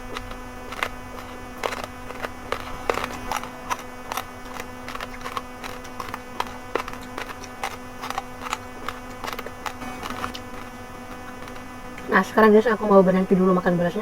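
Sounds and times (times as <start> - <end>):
rice grains crunched between teeth: 0.0 - 12.1
electrical hum: 0.0 - 14.0.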